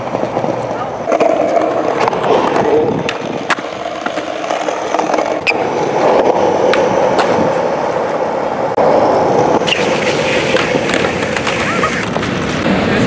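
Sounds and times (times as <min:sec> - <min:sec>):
skateboard clicks and knocks: 0:00.0 - 0:13.0
skateboard wheels rumbling: 0:00.0 - 0:13.0.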